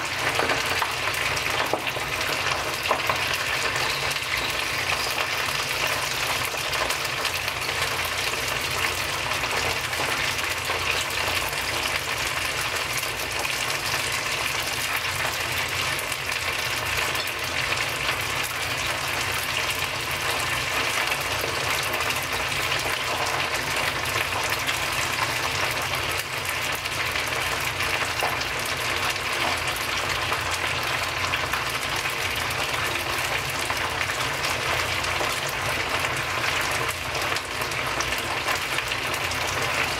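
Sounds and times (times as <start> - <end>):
oil sizzling while deep-frying: 0.0 - 39.9.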